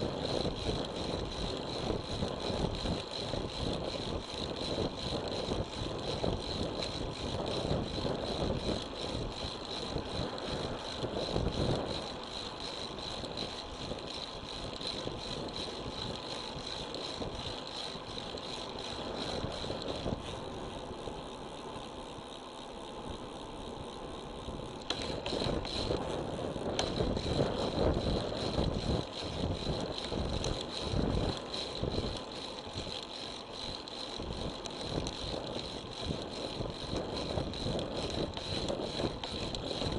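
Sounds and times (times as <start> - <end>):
wind buffeting: 0.0 - 21.0, 24.5 - 39.9
bike tyre noise on road: 0.0 - 39.9.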